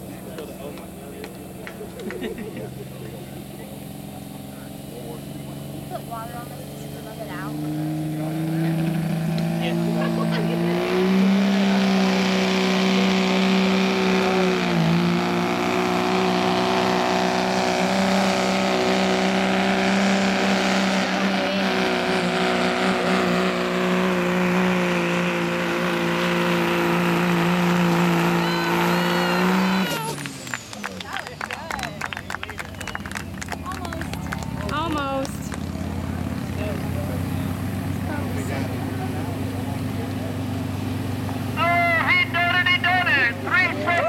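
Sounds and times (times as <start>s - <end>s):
diesel truck engine at high revs: 0.0s - 44.0s.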